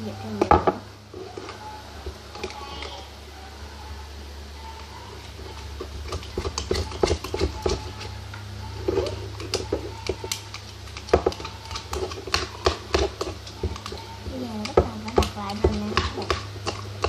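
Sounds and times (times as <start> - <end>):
steady low hum: 0.0 - 17.0
spoon stirring slime in cup: 1.1 - 3.1, 4.6 - 17.0.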